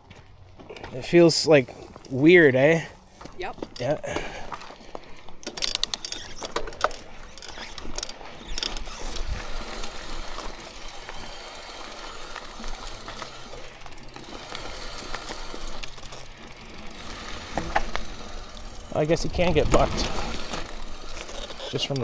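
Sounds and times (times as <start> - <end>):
bike rattling on rough trail: 0.0 - 22.0.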